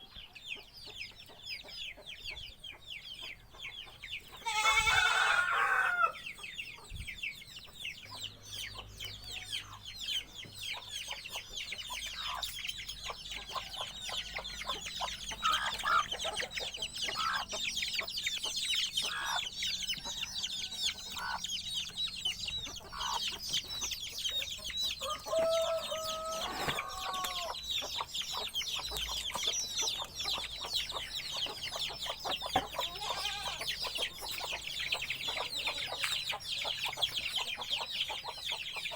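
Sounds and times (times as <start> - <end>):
chickens clucking: 0.0 - 38.9
wild birds chirping: 0.0 - 38.9.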